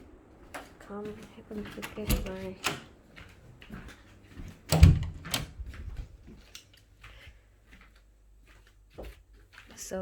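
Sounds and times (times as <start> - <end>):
rustling of things handled: 0.0 - 10.0.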